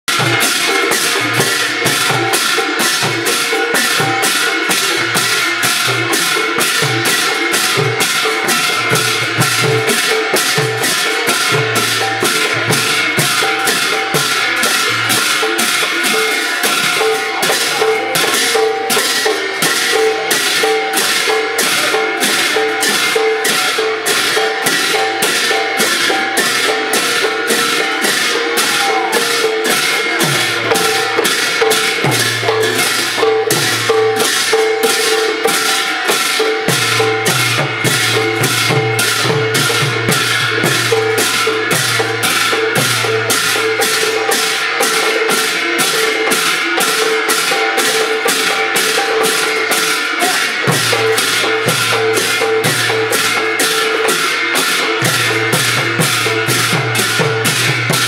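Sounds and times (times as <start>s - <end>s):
hand cymbals clashing: 0.1s - 58.0s.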